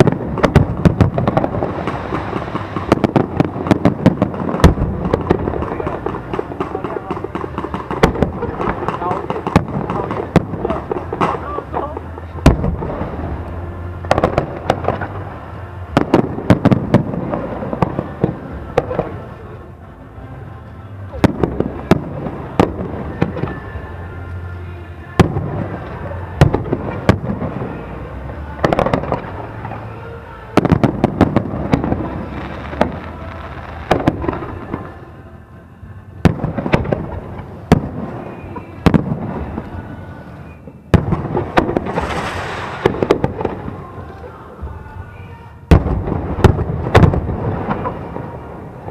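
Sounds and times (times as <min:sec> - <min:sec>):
fireworks bursting in bangs: 0:00.0 - 0:19.6, 0:21.1 - 0:24.3, 0:25.0 - 0:35.1, 0:36.2 - 0:48.9.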